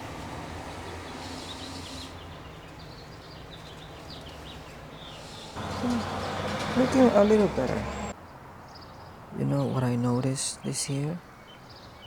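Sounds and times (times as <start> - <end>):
distant road traffic rumble: 0.0 - 12.0
small birds chirping: 0.7 - 12.0.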